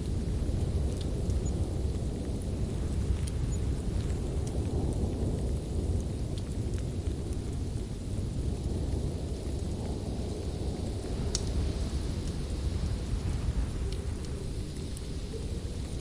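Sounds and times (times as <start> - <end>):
fire crackles: 0.0 - 16.0
wood fire rumbling: 0.0 - 16.0.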